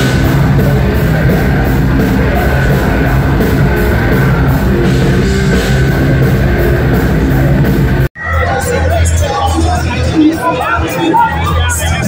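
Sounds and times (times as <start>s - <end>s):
drum kit with cymbals: 0.0s - 10.0s
distorted electric guitars: 0.0s - 12.0s.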